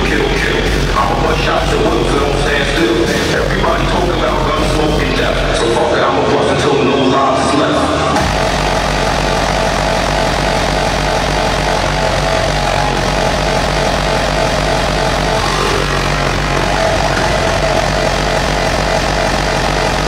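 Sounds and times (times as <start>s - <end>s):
loud distorted club music: 0.0s - 20.0s.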